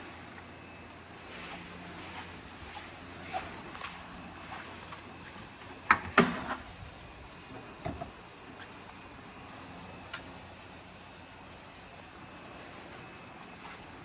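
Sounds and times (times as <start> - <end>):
steady faint hiss: 0.0 - 14.0.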